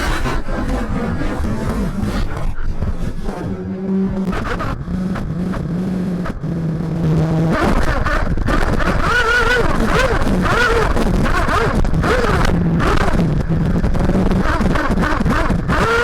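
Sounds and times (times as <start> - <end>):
model car nitro engine revving: 0.0 - 16.0.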